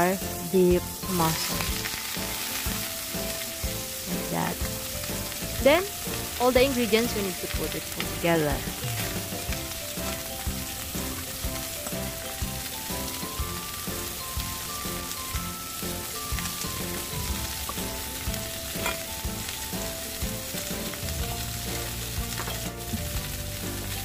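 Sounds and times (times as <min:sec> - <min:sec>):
background music melody: 0:00.0 - 0:24.0
meat sizzling in hot oil: 0:00.0 - 0:24.0.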